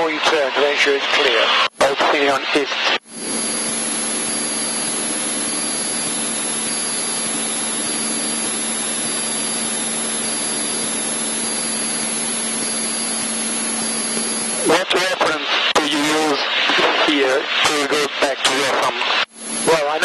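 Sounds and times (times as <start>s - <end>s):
airplane engine drone in cabin: 0.2s - 16.8s.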